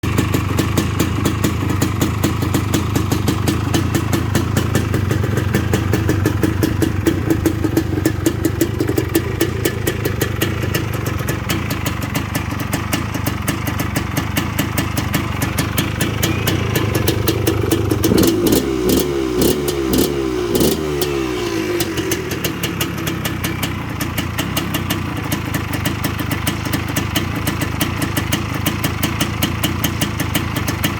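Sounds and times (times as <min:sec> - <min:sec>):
two-stroke engine idling: 0:00.0 - 0:30.9.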